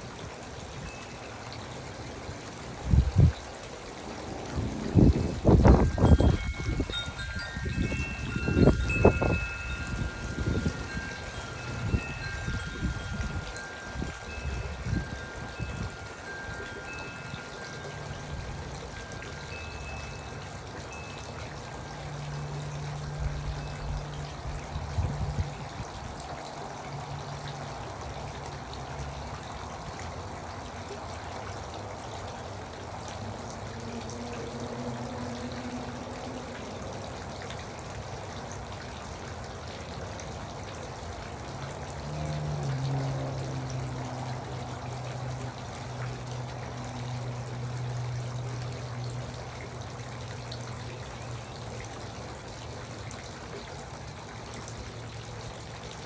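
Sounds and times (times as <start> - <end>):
fountain trickling and splashing: 0.0 - 56.0.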